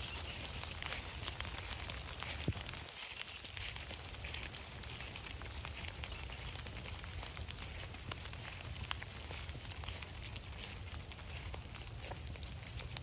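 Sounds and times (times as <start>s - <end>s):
rain pattering on leaves: 0.0s - 13.0s.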